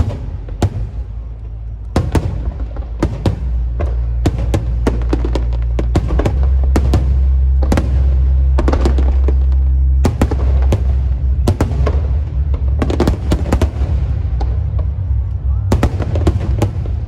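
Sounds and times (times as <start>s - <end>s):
fireworks and firecrackers banging: 0.0s - 17.0s
steady low rumble: 0.0s - 17.0s.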